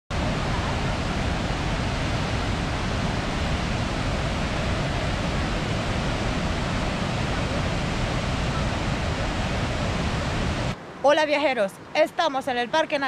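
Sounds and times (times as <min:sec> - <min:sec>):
waterfall rushing: 0:00.1 - 0:11.4.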